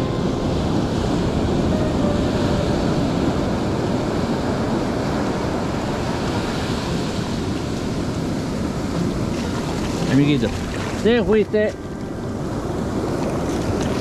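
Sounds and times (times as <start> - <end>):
ocean surf on beach: 0.0 - 14.0
wind on microphone: 0.0 - 14.0.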